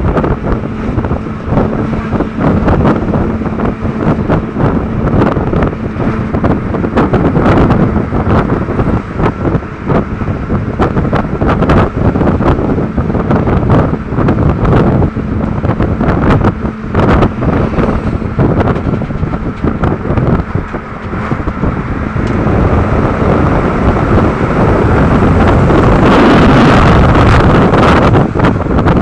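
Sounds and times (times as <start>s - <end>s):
road noise: 0.0s - 29.0s
wind buffeting microphone: 0.0s - 29.0s.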